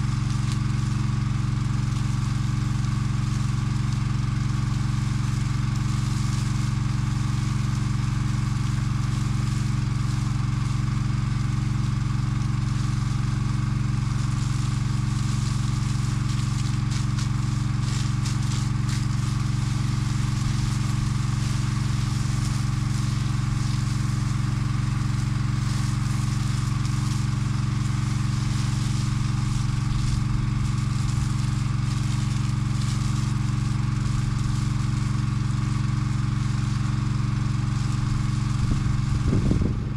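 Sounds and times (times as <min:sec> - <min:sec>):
pump engine running: 0:00.0 - 0:39.9
water spraying from hose nozzle: 0:00.0 - 0:39.9.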